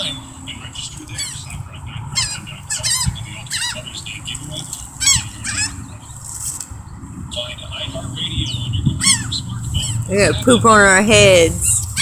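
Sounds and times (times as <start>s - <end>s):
seagulls squawking: 0.0s - 6.2s, 7.4s - 11.0s.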